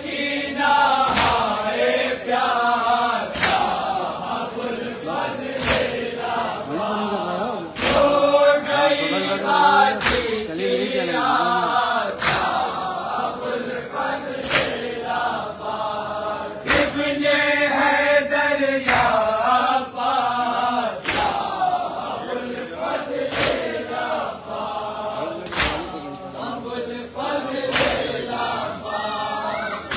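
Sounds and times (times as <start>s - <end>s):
crowd of men chanting: 0.0s - 29.9s.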